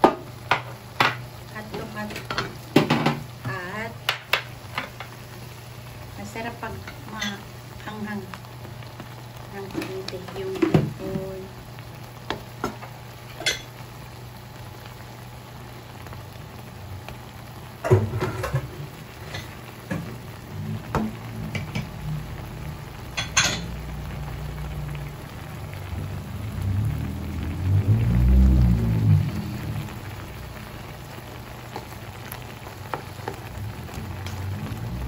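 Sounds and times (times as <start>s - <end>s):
sauce bubbling and sizzling: 0.0s - 35.0s.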